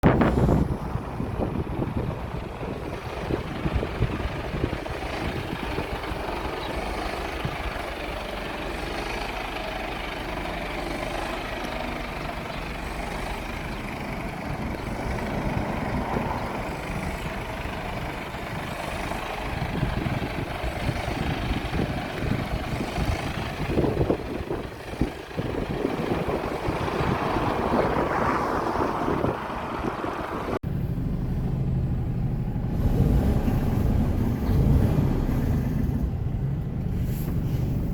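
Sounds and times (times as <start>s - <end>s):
truck diesel engine running: 0.0s - 37.9s.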